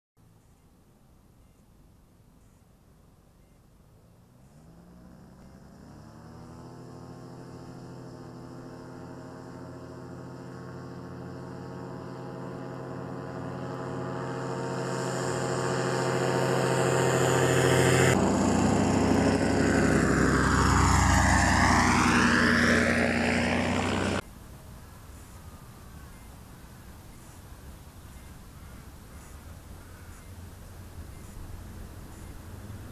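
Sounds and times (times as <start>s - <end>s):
paramotor engine and propeller: 0.2s - 32.9s.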